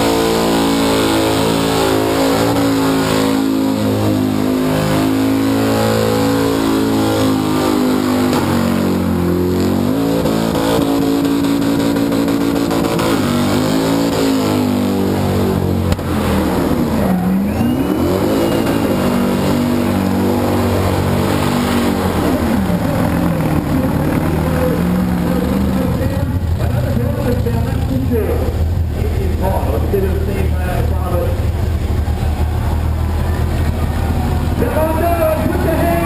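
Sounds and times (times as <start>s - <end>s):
car engine revving high: 0.0s - 36.0s.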